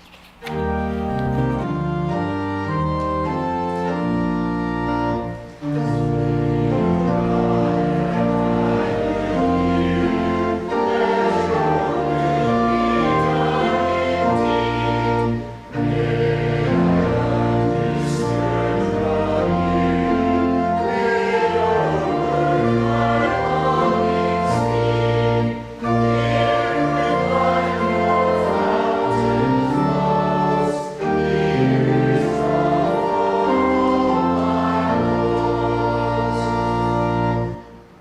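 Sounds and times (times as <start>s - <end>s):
sustained instrumental chords: 0.4s - 38.0s
group singing a hymn: 3.3s - 37.8s.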